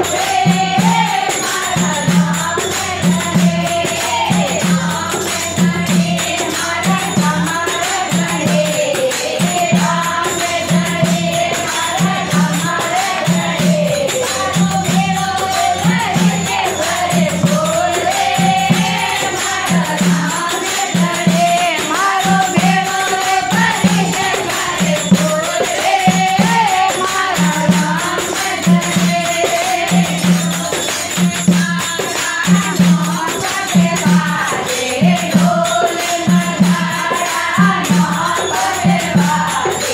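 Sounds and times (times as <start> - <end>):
hand drum beating: 0.0 - 39.9
women singing devotional song: 0.0 - 39.9.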